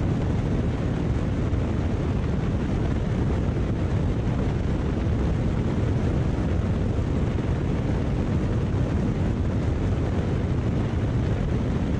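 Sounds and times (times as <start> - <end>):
light airplane engine and propeller: 0.0 - 11.9
rushing airflow: 0.0 - 11.9.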